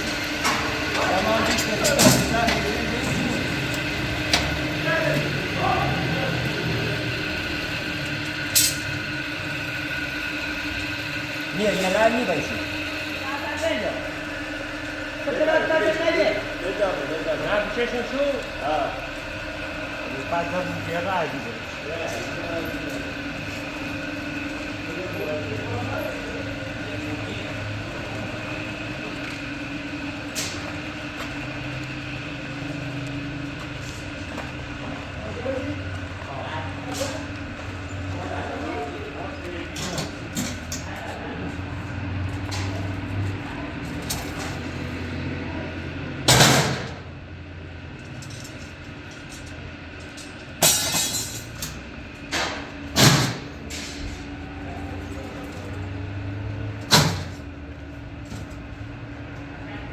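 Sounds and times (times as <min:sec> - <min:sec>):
engine hum: 0:00.0 - 0:59.9.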